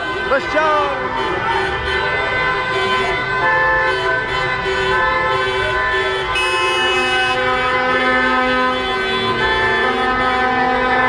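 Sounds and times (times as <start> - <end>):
car horns honking: 0.0 - 11.0
traffic rumble: 0.0 - 11.0.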